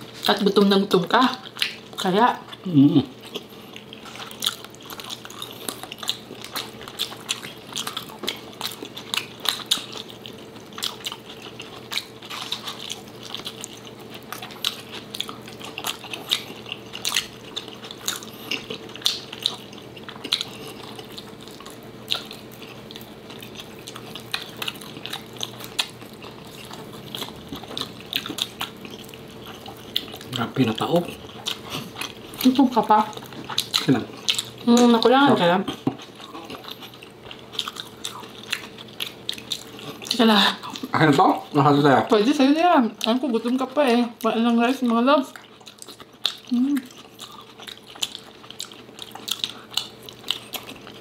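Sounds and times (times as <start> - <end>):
faint steady hum: 0.0 - 51.0
people chewing food: 0.0 - 51.0.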